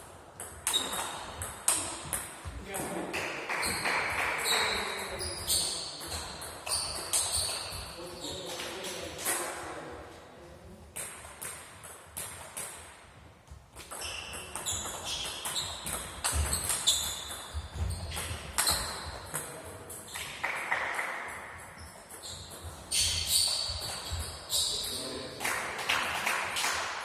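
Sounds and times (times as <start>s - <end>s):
table tennis ball bouncing: 0.3s - 9.5s, 10.9s - 13.0s, 13.7s - 27.0s.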